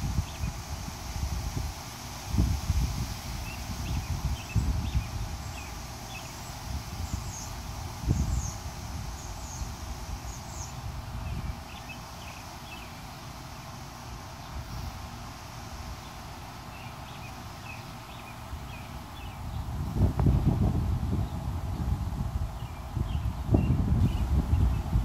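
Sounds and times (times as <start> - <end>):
songbirds chirping: 0.0 - 2.2, 3.0 - 25.0.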